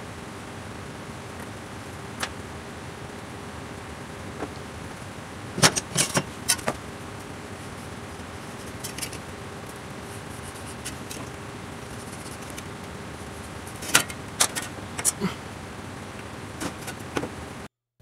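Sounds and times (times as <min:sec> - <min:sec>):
low workshop hum: 0:00.0 - 0:17.7.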